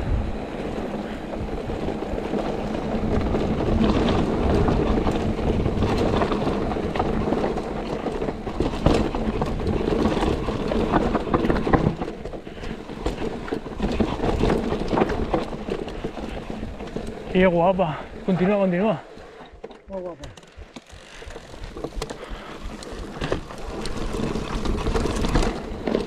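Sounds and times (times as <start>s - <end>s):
wind rumble on microphone: 0.0s - 18.4s, 20.6s - 26.0s
tyres rolling over dirt and rocks: 0.3s - 26.0s
bike chain knocks and rattles: 1.4s - 18.5s, 19.5s - 26.0s.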